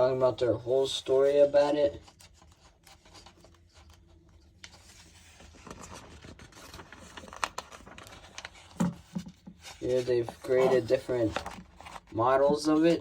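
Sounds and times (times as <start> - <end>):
paper pages rustling: 0.5 - 13.0.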